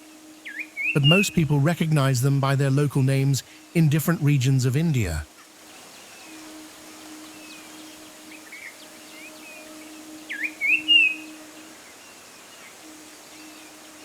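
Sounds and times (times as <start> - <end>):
jungle babblers chirping: 0.0 - 14.0
steady low hum: 0.0 - 14.0.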